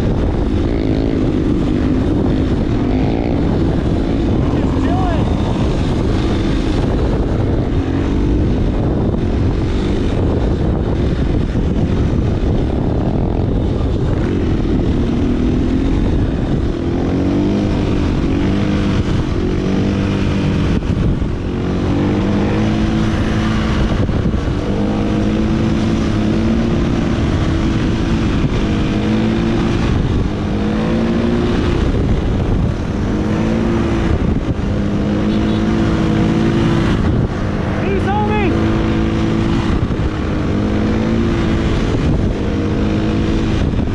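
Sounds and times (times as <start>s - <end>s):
dirt bike engine revving: 0.0s - 11.2s, 11.9s - 43.9s.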